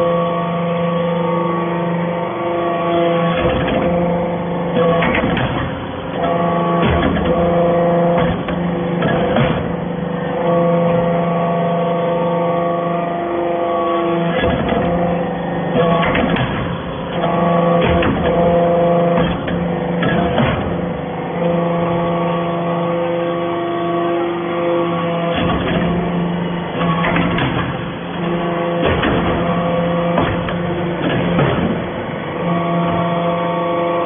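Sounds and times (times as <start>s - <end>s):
hydraulic pump hum: 0.0s - 34.0s.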